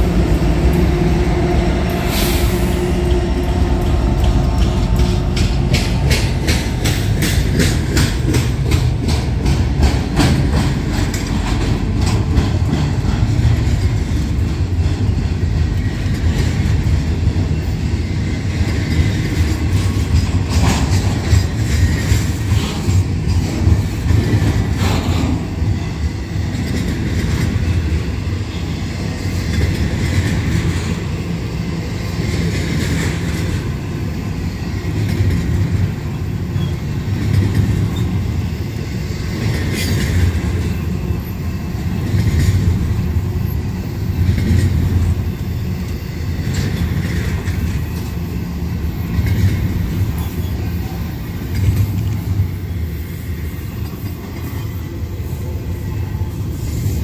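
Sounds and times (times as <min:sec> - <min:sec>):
wheels clacking over rail joints: 0:00.0 - 0:55.4
train wheels rumbling on rail: 0:00.0 - 0:57.0.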